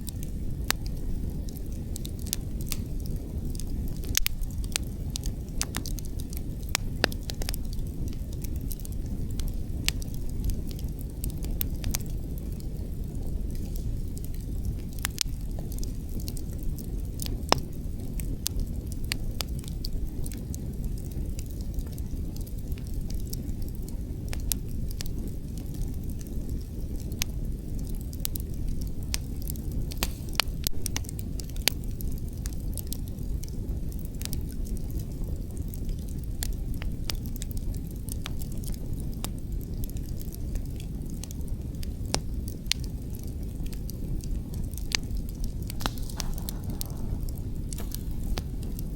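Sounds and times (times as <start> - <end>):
low rumble of wind: 0.0 - 48.9
wood fire crackling: 0.0 - 48.9
sharp snaps and pops: 0.1 - 20.6, 26.2 - 48.9.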